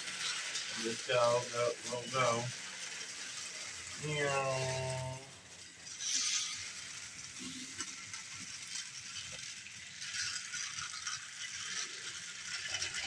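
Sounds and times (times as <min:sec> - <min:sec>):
toy trains rattling whir: 0:00.0 - 0:13.0.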